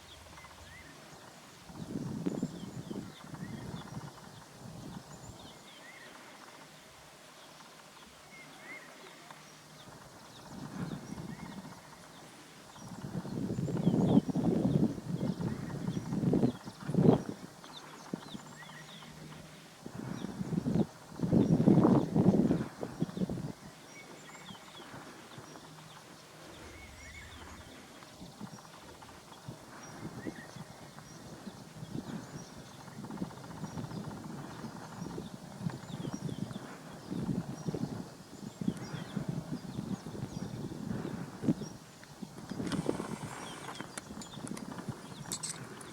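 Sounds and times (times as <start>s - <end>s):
faint bird chirps: 0.0s - 45.9s.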